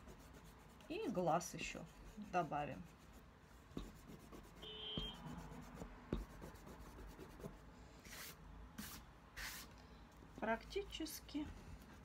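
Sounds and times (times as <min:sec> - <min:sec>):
eraser rubbing on paper: 0:00.0 - 0:09.7.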